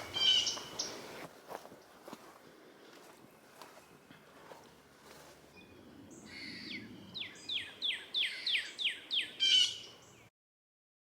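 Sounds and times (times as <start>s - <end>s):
songbird singing: 0.0s - 2.3s, 2.9s - 10.3s
faint outdoor background: 0.0s - 10.3s.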